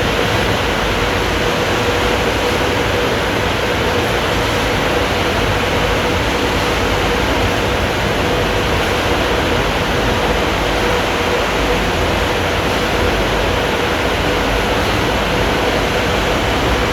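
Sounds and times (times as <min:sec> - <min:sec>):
car wash rushing noise: 0:00.0 - 0:16.9
steady machine hum: 0:00.0 - 0:16.9.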